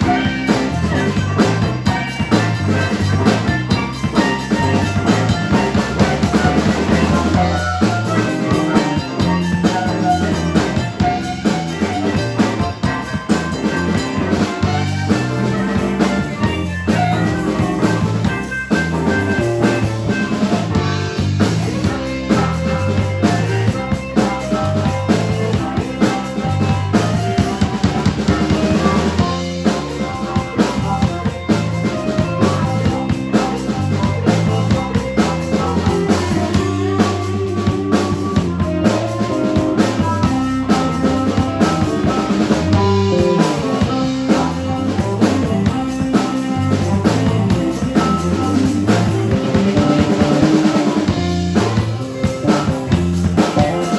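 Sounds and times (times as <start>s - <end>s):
drum kit: 0.0s - 53.9s
rock band playing: 0.0s - 53.9s.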